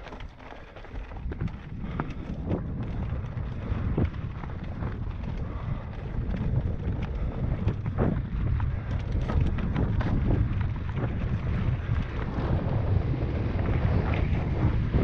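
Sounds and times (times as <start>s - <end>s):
tyres on rocky dirt trail: 0.0s - 15.0s
wind buffeting microphone: 0.0s - 15.0s.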